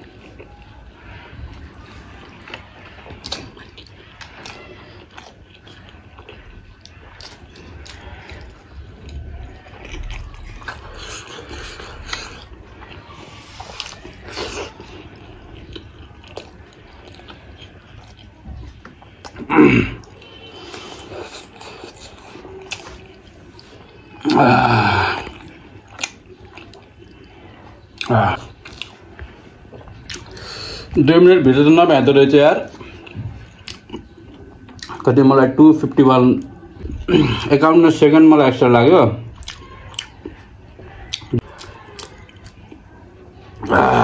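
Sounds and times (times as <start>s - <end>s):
wet chewing: 0.0s - 31.0s, 32.6s - 35.2s, 39.3s - 44.0s.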